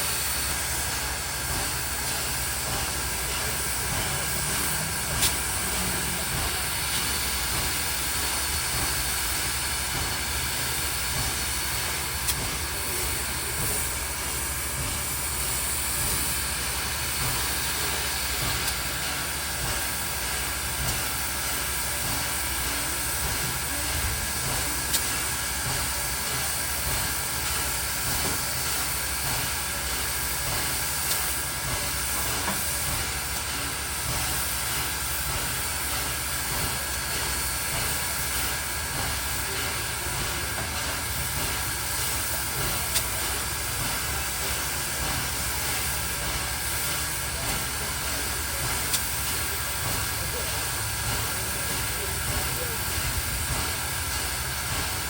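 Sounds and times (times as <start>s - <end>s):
train wheels rumbling on rail: 0.0s - 55.0s
sharp rail clicks: 0.2s - 23.7s, 24.4s - 55.0s.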